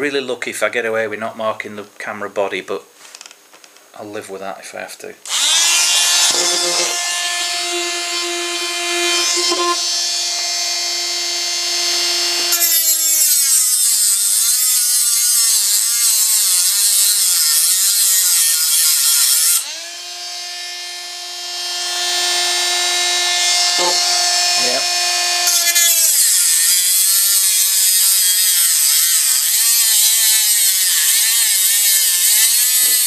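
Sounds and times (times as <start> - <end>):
grinding disc grinding metal: 5.3 - 21.1, 21.8 - 33.0
rotary tool whining: 5.3 - 33.0.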